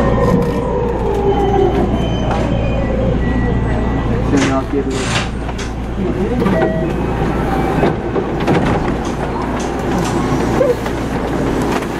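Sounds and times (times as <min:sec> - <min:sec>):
electric train hum: 0:00.0 - 0:11.9.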